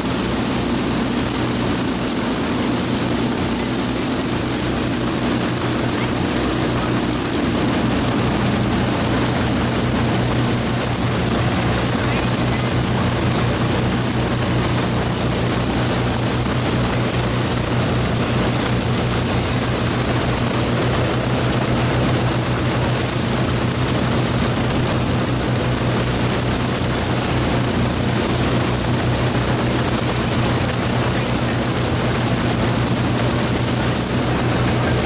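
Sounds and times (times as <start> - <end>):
aircraft engines droning: 0.0 - 35.0.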